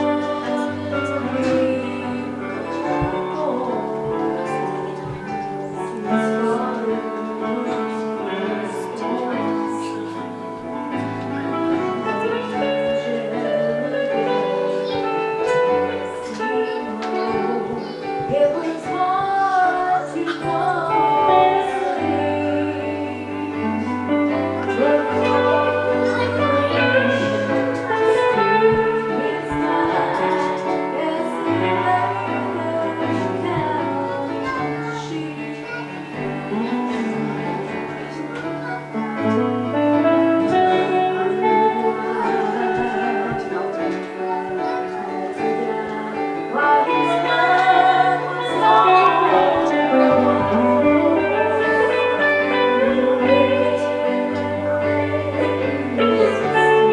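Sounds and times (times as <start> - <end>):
guitar: 0.0 - 56.9
held bass notes: 0.0 - 56.9
person singing: 0.0 - 56.9.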